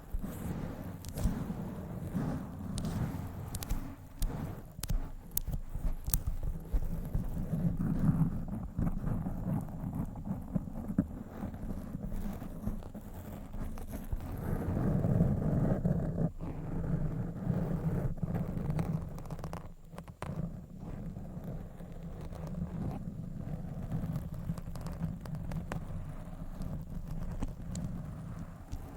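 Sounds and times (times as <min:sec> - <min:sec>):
scratching on microphone: 0:00.0 - 0:28.9.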